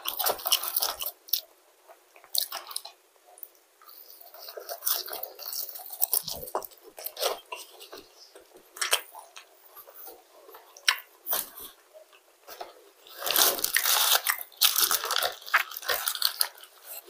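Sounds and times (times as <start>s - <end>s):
person chewing: 0.0s - 1.5s, 2.2s - 17.0s.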